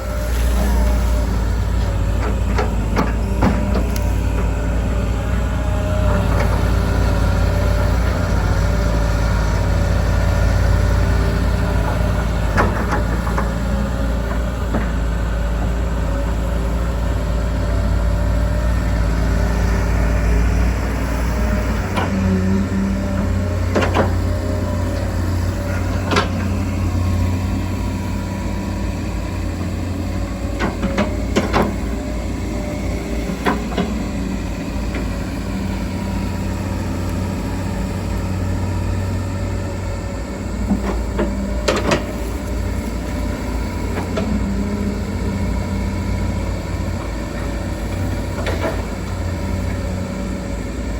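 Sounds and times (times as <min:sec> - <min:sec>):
excavator diesel engines running: 0:00.0 - 0:50.9.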